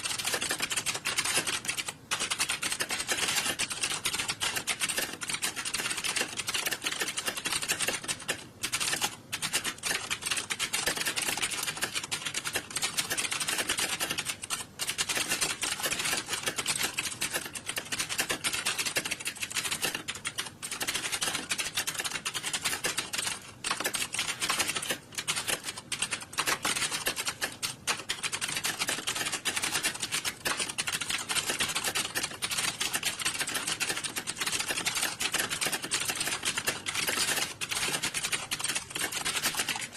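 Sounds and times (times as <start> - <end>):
many keyboards typing: 0.0 - 39.9.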